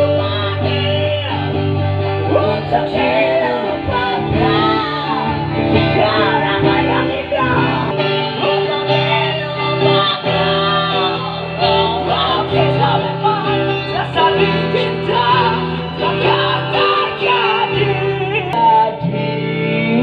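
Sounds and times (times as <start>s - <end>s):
bass line: 0.0s - 20.0s
guitars: 0.0s - 20.0s
person singing: 0.0s - 20.0s.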